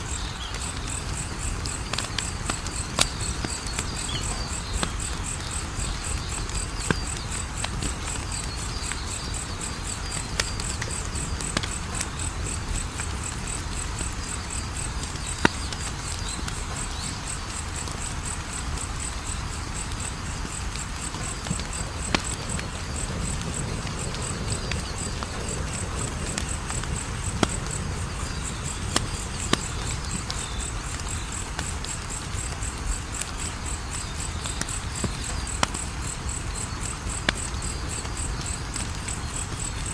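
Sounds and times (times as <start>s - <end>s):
cricket chirping: 0.0s - 39.9s
wood fire crackling and popping: 0.0s - 39.9s.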